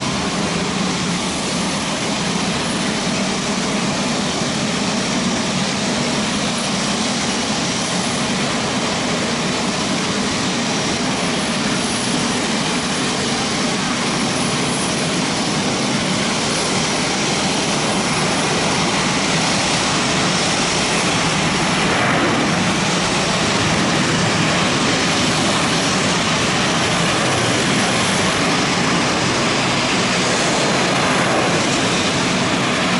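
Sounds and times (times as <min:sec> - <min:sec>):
airliner jet engine rush: 0:00.0 - 0:32.9.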